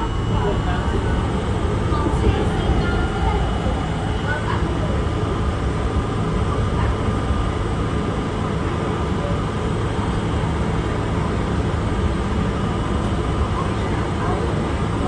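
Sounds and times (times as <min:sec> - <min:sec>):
subway car rumbling on rails: 0:00.0 - 0:15.0.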